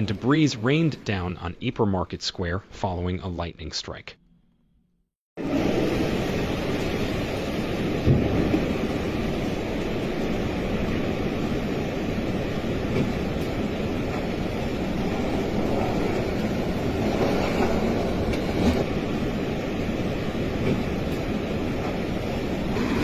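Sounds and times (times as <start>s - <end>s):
low rumbling noise: 0.0s - 23.0s.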